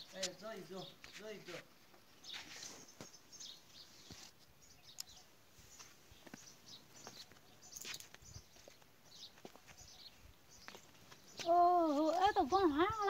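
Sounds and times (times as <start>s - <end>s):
faint bird chirps: 2.1s - 13.0s.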